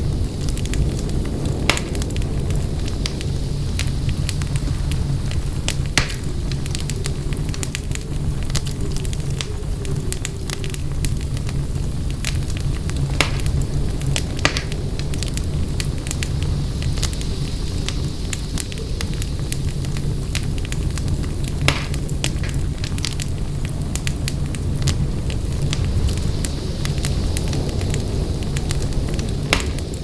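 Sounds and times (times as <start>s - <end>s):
loud fire pops: 0.0s - 30.0s
wood fire crackling: 0.0s - 30.0s.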